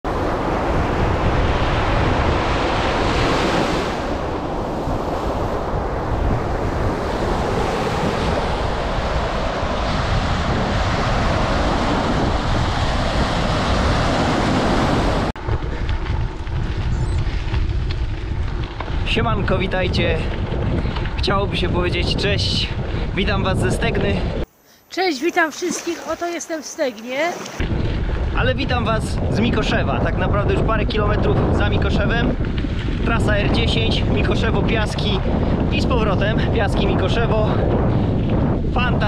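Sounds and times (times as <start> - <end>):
wind buffeting microphone: 0.0 - 24.5, 27.2 - 39.0.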